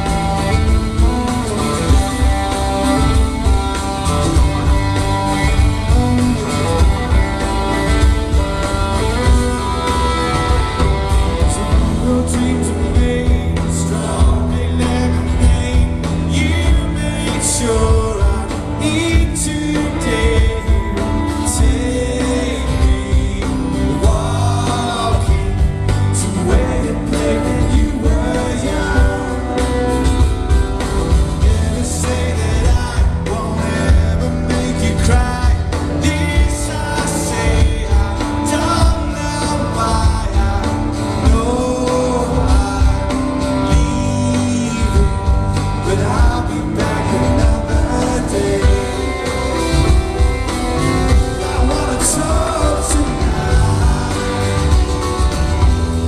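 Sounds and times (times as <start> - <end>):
bass guitar: 0.0 - 56.0
drums: 0.0 - 56.0
person singing: 0.0 - 56.0
strummed guitars: 0.0 - 56.0.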